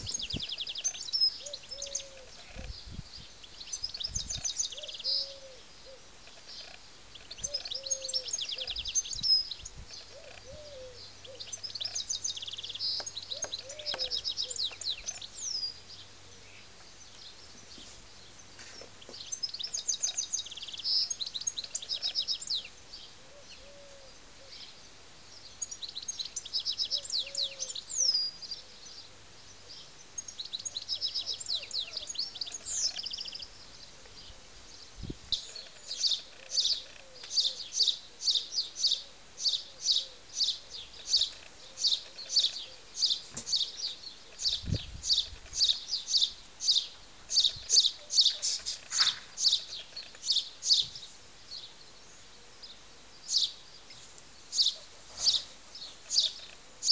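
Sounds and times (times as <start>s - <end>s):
bird chirping: 0.0s - 56.9s
birds singing trilled phrases: 0.0s - 56.9s.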